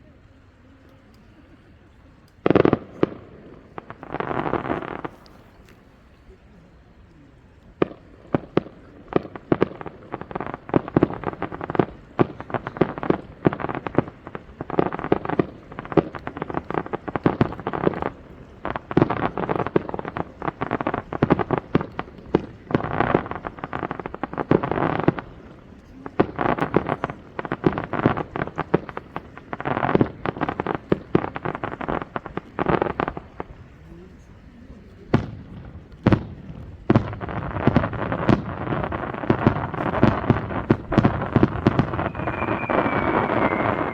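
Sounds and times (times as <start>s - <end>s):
fireworks bangs and crackles: 2.4s - 6.9s, 7.6s - 43.9s.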